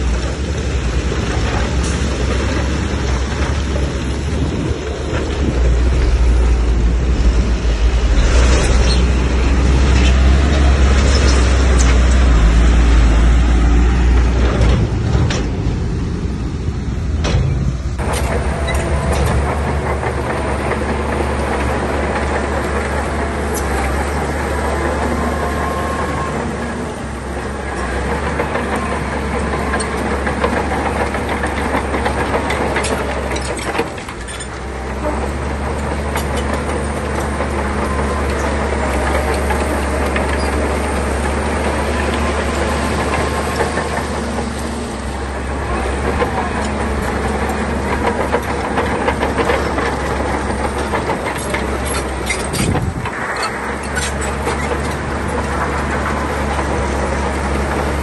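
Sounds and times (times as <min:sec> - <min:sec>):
bulldozer diesel engine running: 0:00.0 - 0:58.0
steel tracks clanking: 0:00.0 - 0:58.0.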